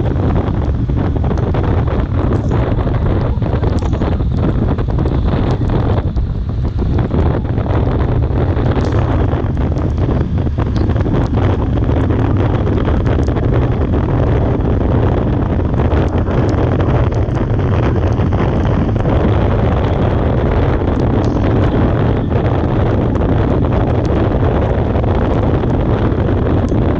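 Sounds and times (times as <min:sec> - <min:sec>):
steady low rumble: 0:00.0 - 0:26.9
wind buffeting microphone: 0:00.0 - 0:26.9.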